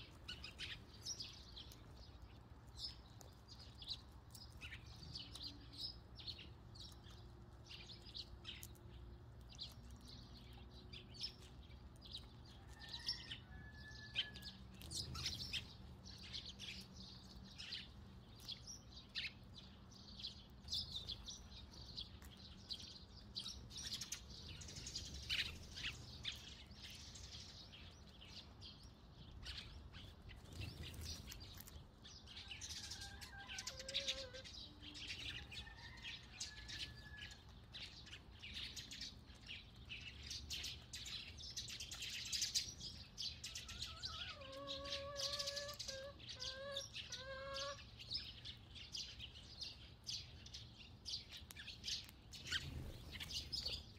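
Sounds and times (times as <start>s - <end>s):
sparrows chirping: 0.0s - 53.9s.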